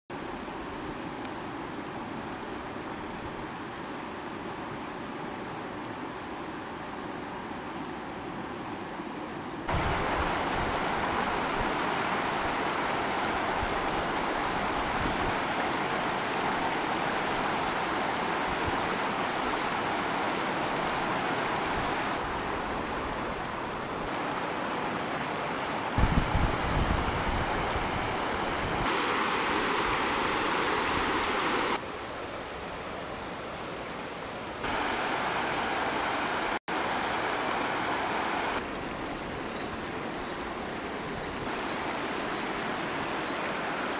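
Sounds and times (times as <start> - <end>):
river water rushing over stones: 0.2 - 43.9.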